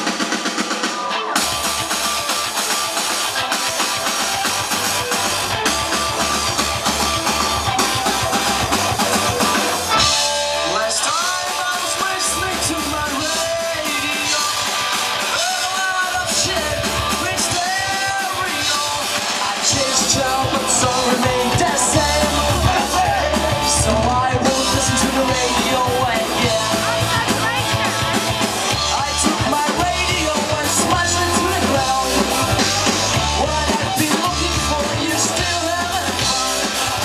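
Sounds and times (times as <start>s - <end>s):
loud drums and cymbals: 0.0s - 37.0s
punk rock band playing: 0.0s - 37.0s
shouted punk singing: 0.0s - 37.0s.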